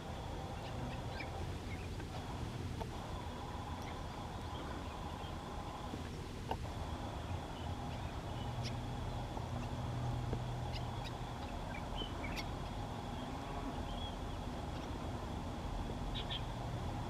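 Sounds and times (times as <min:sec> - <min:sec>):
faint bird chirps: 0:00.4 - 0:02.3, 0:03.0 - 0:15.1, 0:15.9 - 0:16.6.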